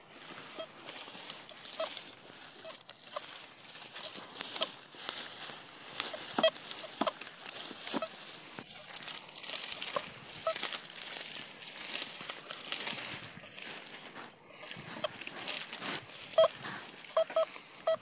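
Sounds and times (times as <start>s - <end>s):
crop stubble crackling and rustling: 0.0s - 18.0s.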